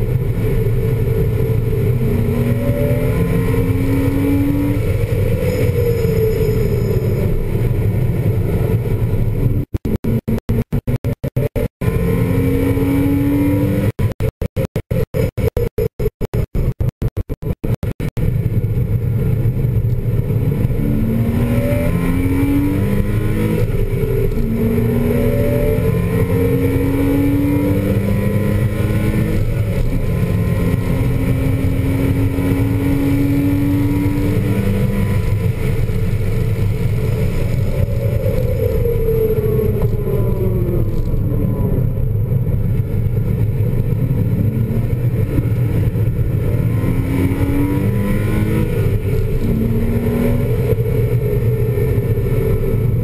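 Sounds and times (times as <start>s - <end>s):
wind and road noise: 0.0s - 53.0s
car engine accelerating through gears: 0.1s - 14.1s, 18.5s - 53.0s.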